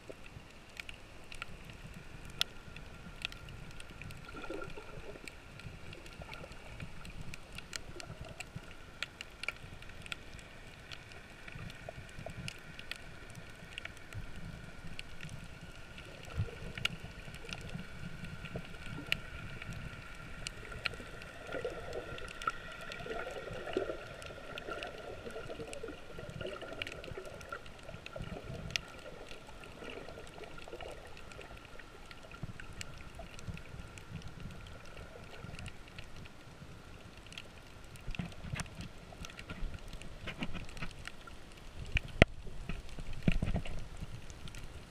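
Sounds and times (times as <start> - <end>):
faint steady hum: 0.0 - 44.9
sharp clicks and crackles: 0.0 - 44.9
underwater rumble of moving water: 0.0 - 44.9.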